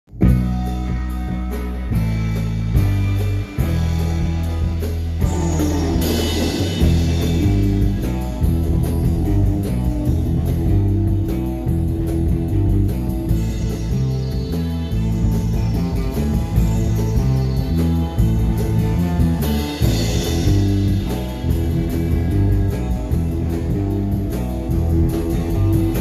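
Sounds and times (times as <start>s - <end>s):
falling guitar sweep: 0.1s - 26.0s
surf rock band playing: 0.1s - 26.0s.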